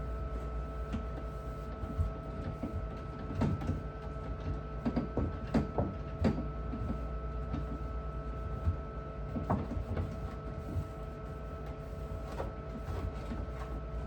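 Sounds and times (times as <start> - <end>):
mechanical hum with tones: 0.0 - 14.0.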